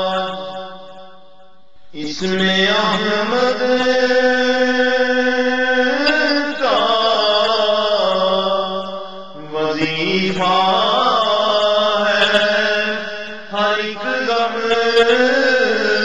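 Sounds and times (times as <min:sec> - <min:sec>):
man singing: 0:01.9 - 0:16.0.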